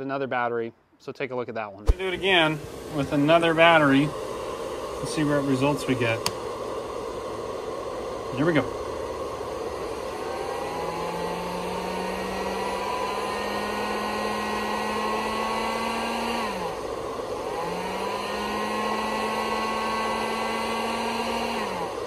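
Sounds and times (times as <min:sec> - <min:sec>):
heat gun blowing whir: 0:01.9 - 0:22.0
power inverter motor whine: 0:01.9 - 0:22.0.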